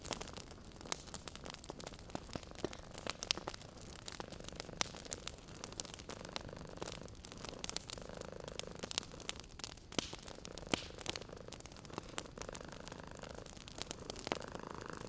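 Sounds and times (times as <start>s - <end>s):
wood fire crackling and popping: 0.0s - 15.0s
cat purring: 0.1s - 15.0s.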